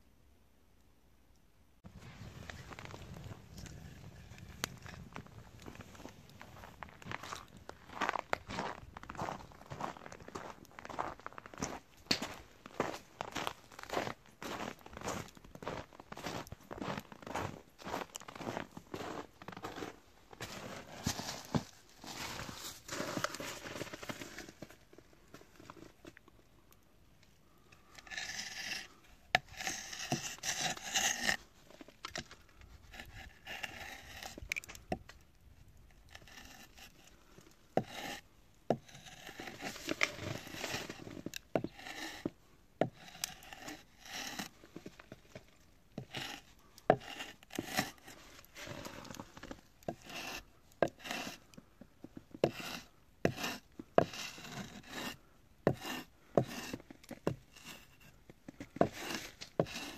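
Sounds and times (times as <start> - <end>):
wood scraping and rubbing: 1.9 - 26.1, 28.0 - 35.1, 35.9 - 51.6, 52.4 - 59.9.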